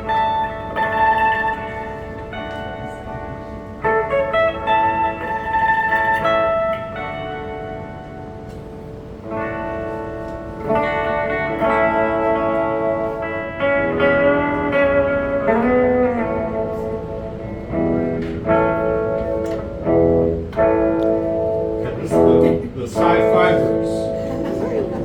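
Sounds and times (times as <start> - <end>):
electric guitar chords ringing: 0.0 - 25.0.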